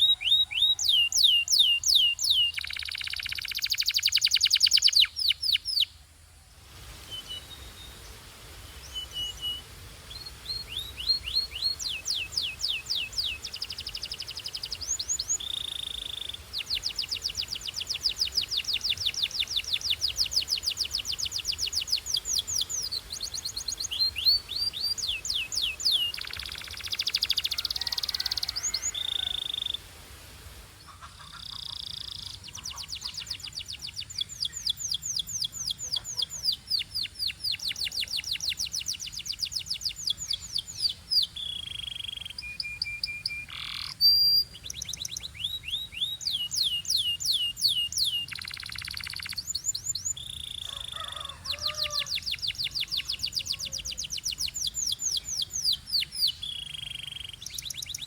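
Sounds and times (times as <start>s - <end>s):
canary singing trills: 0.0s - 6.0s, 7.2s - 29.9s, 30.8s - 58.0s.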